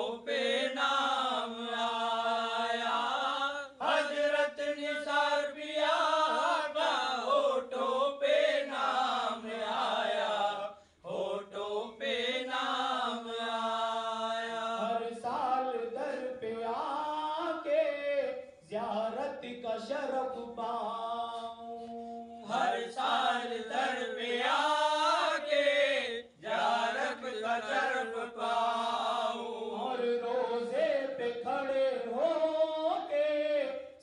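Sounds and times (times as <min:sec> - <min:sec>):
men chanting a devotional song: 0:00.0 - 0:34.0.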